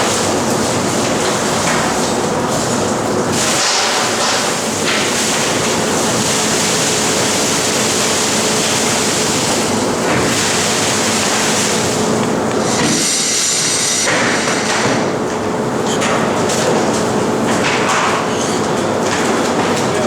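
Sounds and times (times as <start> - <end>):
fish filleting machine running: 0.0 - 20.0.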